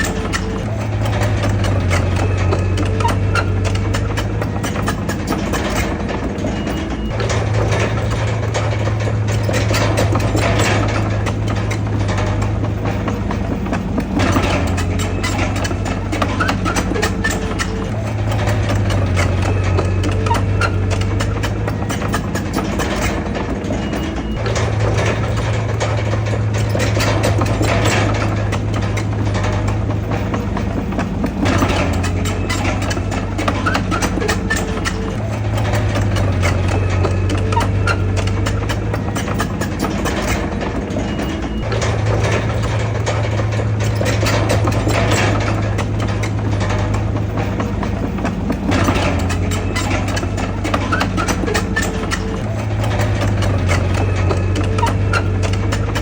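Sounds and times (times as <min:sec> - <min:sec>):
diesel machinery engine running: 0:00.0 - 0:56.0
metallic clanks and rattles: 0:00.0 - 0:56.0.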